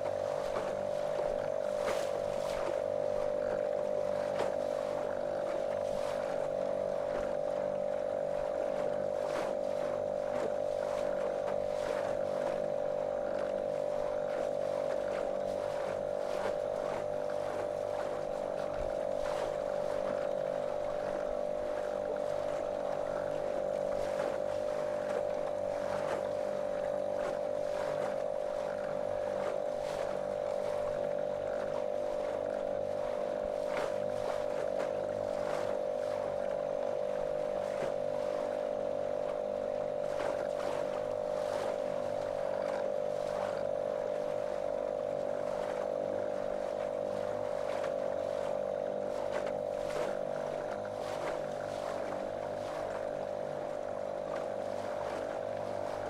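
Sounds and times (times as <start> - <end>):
motorboat motor running: 0.0 - 56.0
water splashing along hull: 0.0 - 56.0.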